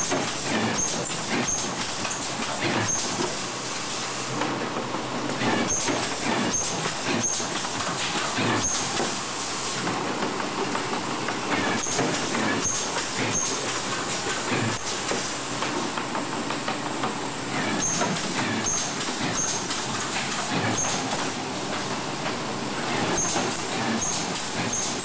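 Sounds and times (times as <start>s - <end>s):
machine hiss and clatter: 0.0s - 25.0s.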